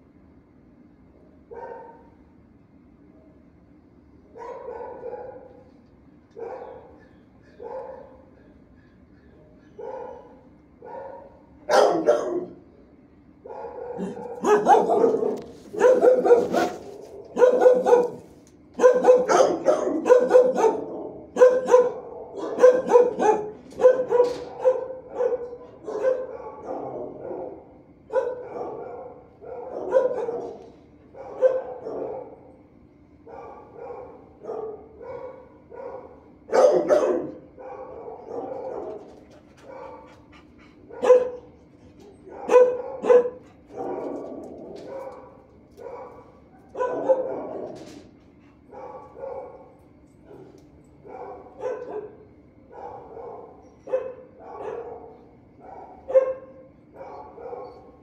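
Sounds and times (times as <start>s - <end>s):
dogs barking: 1.5s - 2.2s, 4.3s - 12.8s, 13.4s - 32.6s, 33.2s - 47.9s, 48.5s - 58.0s.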